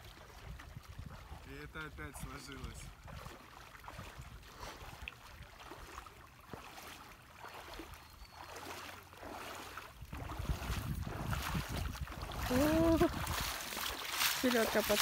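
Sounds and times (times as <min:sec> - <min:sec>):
water sloshing around wading legs: 0:00.0 - 0:15.0.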